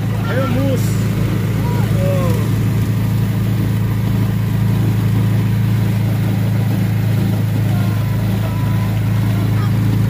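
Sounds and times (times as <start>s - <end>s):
ride car engine humming: 0.0s - 10.0s.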